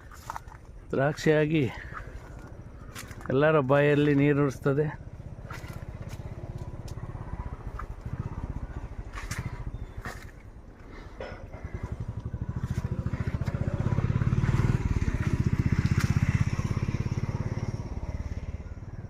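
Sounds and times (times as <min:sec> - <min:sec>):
engine with rapid even beat: 0:01.6 - 0:19.0.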